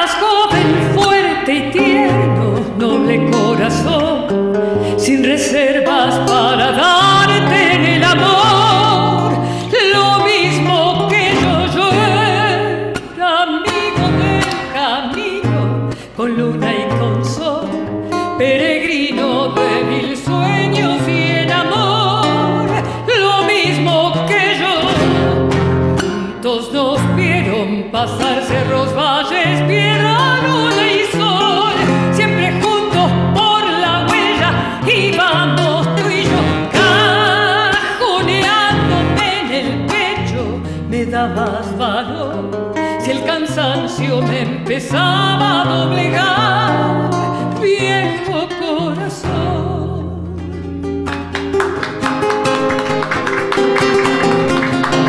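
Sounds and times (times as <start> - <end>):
woman singing folk song: 0.0 - 53.0
strummed acoustic guitar: 0.0 - 55.0.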